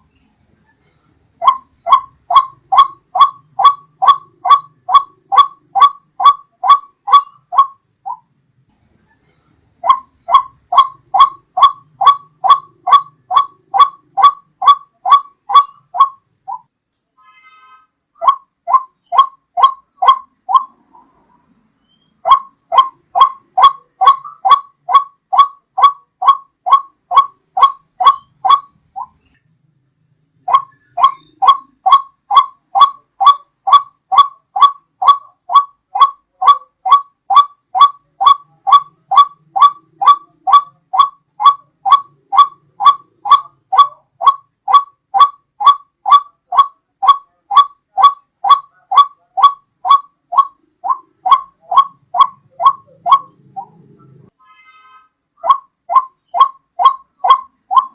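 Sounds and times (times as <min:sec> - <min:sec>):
waterhen call repeated: 0:01.4 - 0:08.2, 0:09.8 - 0:16.6, 0:17.2 - 0:20.8, 0:22.2 - 0:29.2, 0:30.5 - 0:57.9.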